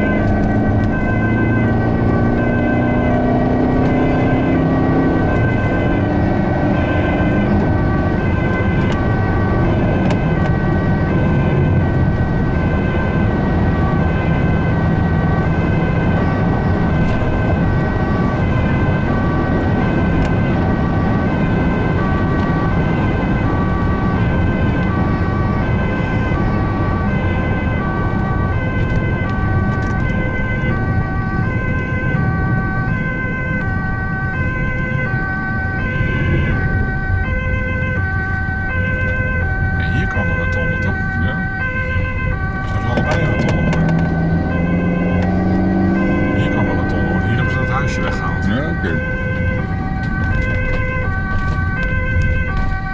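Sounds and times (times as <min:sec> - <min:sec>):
ambulance two-tone siren: 0:00.0 - 0:52.9
vehicle engine and tyres rumble: 0:00.0 - 0:52.9.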